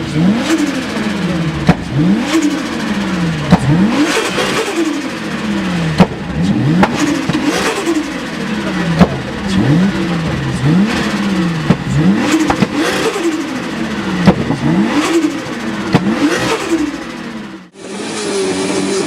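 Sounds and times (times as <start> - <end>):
car engine revving: 0.0 - 19.0
sharp exhaust bursts: 0.3 - 18.7.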